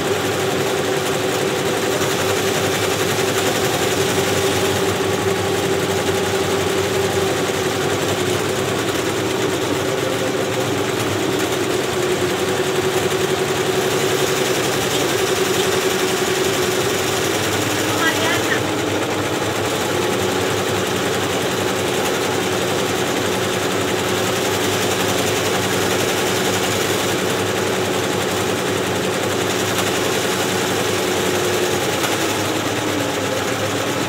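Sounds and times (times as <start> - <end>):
embroidery machines stitching: 0.0 - 34.0.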